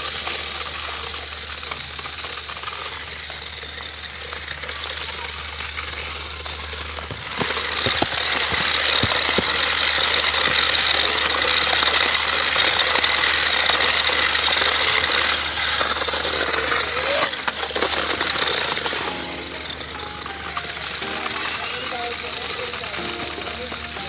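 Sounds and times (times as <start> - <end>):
small electric motor whirring: 0.0 - 24.0.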